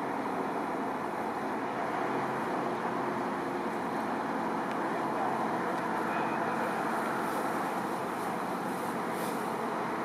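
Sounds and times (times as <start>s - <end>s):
highway traffic: 0.0s - 10.0s.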